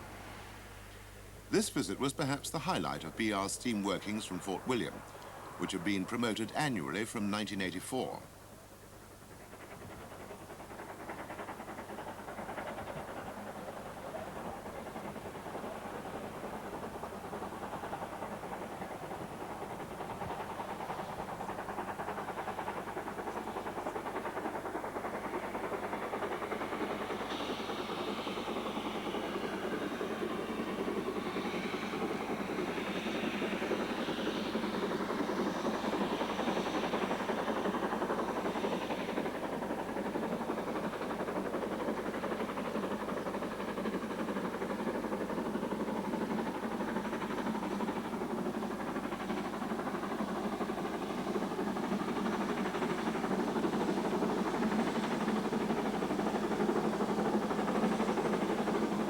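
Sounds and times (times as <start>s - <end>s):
steam locomotive rumbling and hissing: 0.0s - 59.0s.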